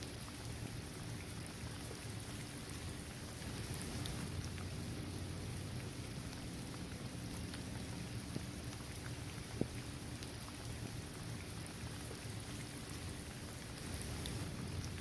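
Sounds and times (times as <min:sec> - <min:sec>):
rain falling on pavement: 0:00.0 - 0:15.0.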